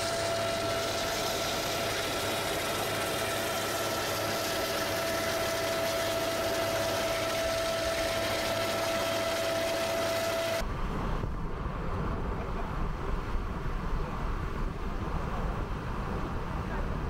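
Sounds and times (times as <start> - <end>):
boat engine rumble: 0.0 - 17.0.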